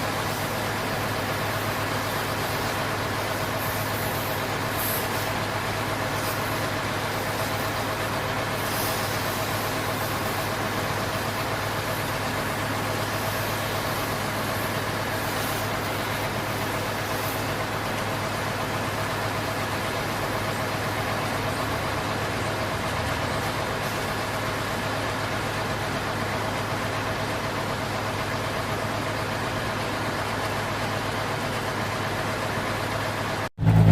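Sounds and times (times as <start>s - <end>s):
engine running steadily: 0.0s - 33.9s.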